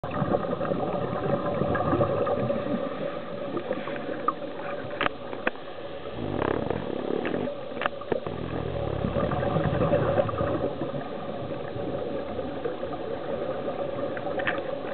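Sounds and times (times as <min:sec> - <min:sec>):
underwater hiss and hum: 0:00.0 - 0:14.9
water rushing: 0:00.0 - 0:14.9.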